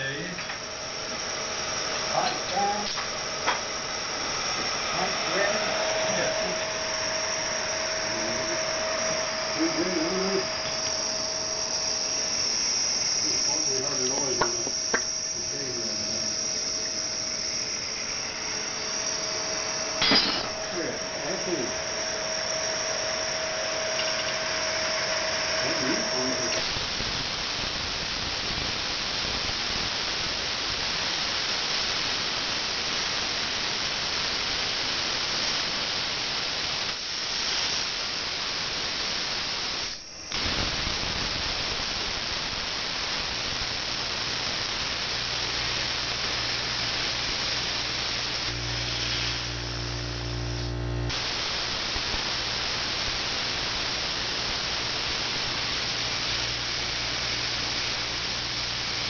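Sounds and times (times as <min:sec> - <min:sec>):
low electrical hum: 0:00.0 - 0:31.3, 0:33.4 - 0:59.0
plasma cutter hissing: 0:00.0 - 0:59.0.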